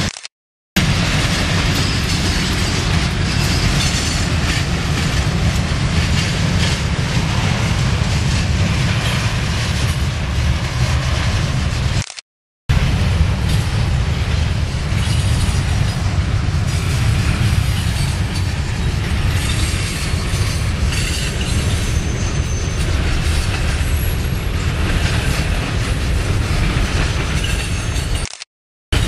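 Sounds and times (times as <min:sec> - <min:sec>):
diesel locomotives rumbling: 0:00.8 - 0:12.1, 0:12.7 - 0:28.3
train wheels rolling on rails: 0:00.8 - 0:12.1, 0:12.7 - 0:28.4.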